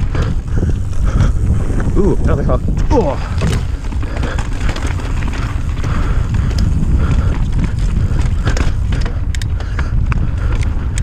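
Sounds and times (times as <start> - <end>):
tyres rolling over dirt: 0.0 - 11.0
wind buffeting microphone: 0.0 - 11.0.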